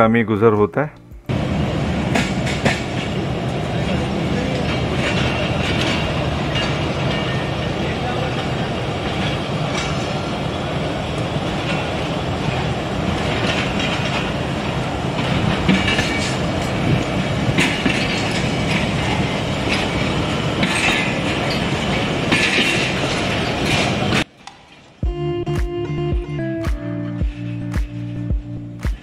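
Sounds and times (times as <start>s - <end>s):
train wheels rumbling on rails: 1.3s - 25.0s.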